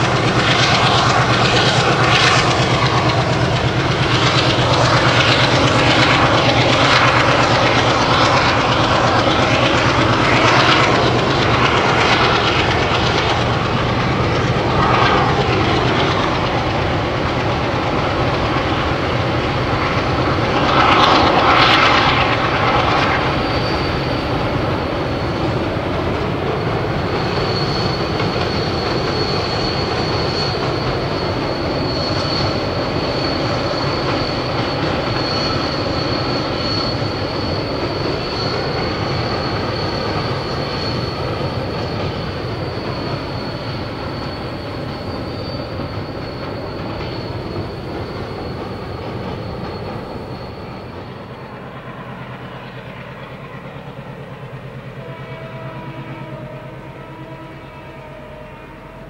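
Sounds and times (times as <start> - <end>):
high-pitched wheel squeal: 0.0 - 59.0.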